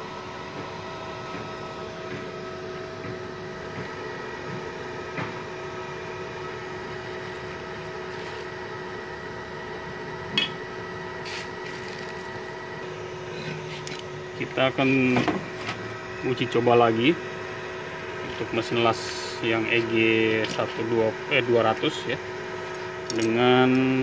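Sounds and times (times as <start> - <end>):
welder hum with fan whine: 0.0 - 24.0.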